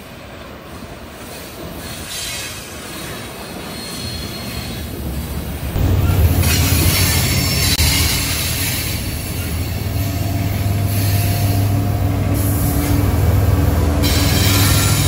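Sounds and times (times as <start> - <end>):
train rumbling: 0.0 - 15.0
train wheels squealing on rails: 0.0 - 15.0.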